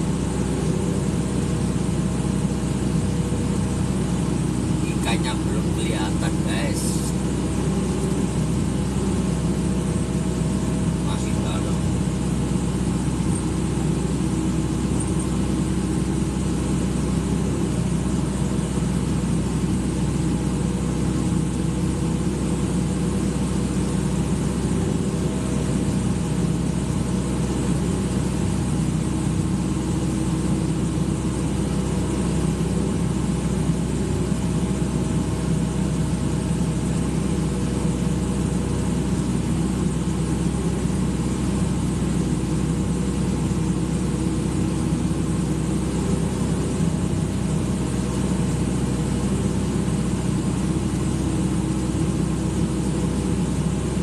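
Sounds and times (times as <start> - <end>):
excavator diesel engine running: 0.0 - 54.0
faint whine: 0.0 - 54.0.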